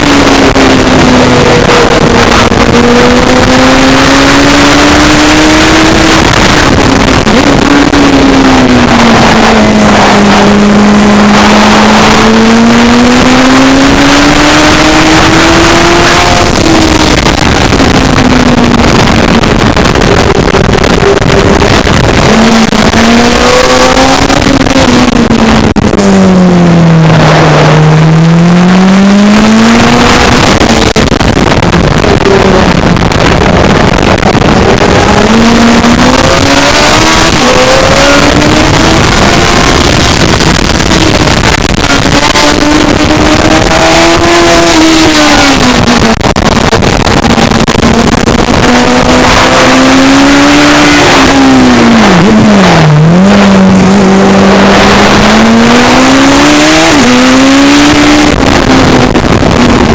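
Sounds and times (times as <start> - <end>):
heavy wind noise: 0.0 - 59.9
racing engine running hard: 0.0 - 59.9.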